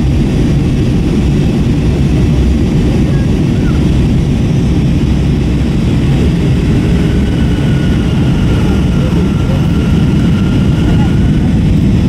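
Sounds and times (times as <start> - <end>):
airflow past fuselage: 0.0 - 12.0
jet engine cabin rumble: 0.0 - 12.0.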